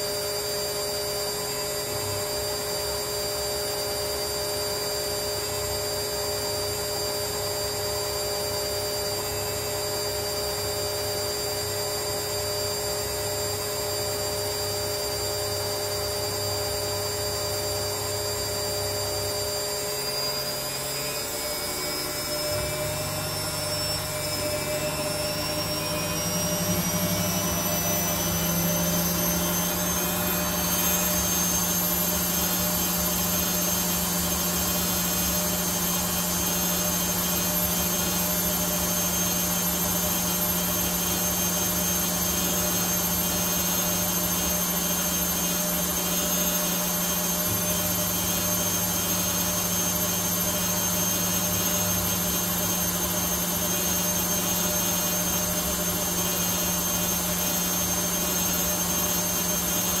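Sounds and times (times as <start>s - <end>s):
washing machine spinning: 0.0s - 60.0s.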